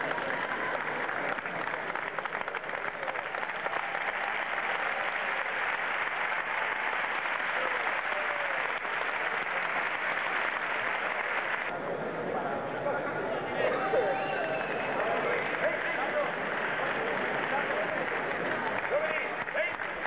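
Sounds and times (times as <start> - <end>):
crowd applauding: 0.0 - 11.8, 13.6 - 20.0.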